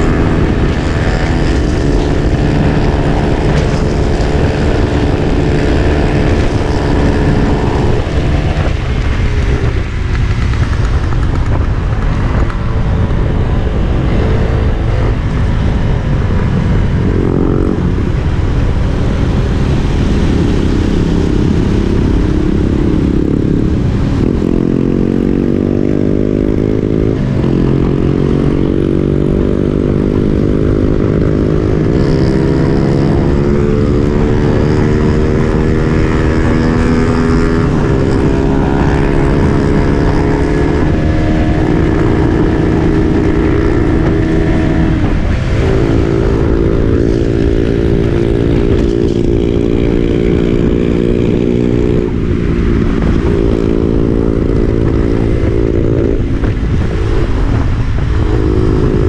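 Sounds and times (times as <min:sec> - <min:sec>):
motorcycle engine running: 0:00.0 - 0:59.0
wind rumbling on microphone: 0:00.0 - 0:59.0.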